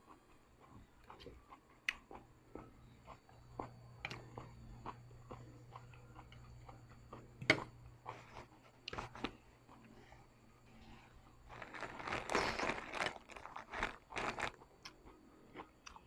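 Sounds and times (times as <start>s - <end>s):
person chewing noodles: 0.0s - 16.0s.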